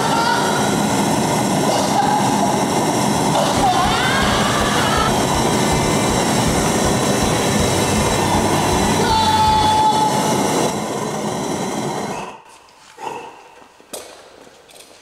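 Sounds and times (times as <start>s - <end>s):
gas burner hissing rush: 0.0s - 12.2s.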